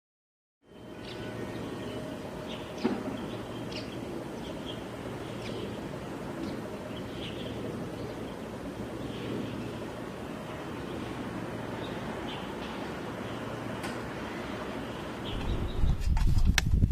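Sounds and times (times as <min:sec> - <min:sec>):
low rumble of distant traffic: 0:00.6 - 0:16.6.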